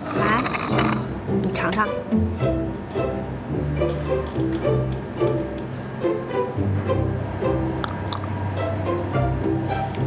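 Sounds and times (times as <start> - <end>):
light plucked string music: 0.0 - 10.0.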